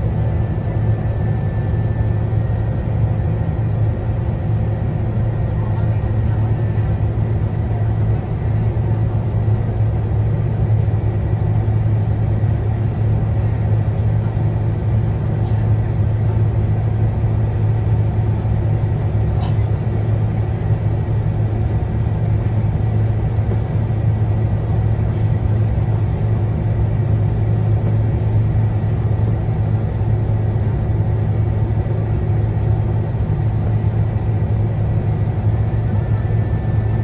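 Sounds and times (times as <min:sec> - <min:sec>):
airplane cabin engine drone: 0:00.0 - 0:37.0.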